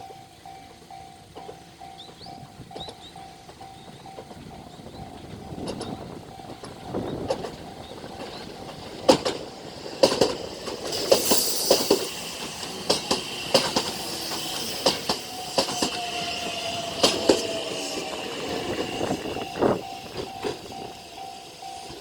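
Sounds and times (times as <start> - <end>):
train wheels clacking over rail joints: 0.0 - 22.0.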